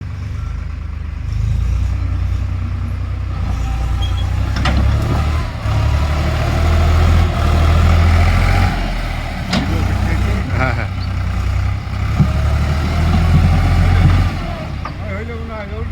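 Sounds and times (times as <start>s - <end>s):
tractor diesel engine rumbling: 0.0s - 15.9s.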